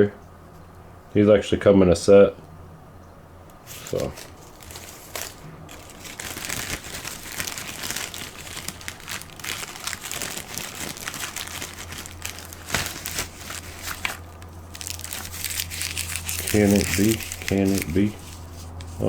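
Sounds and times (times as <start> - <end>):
paper and plastic wrapping crinkling: 3.6 - 19.0.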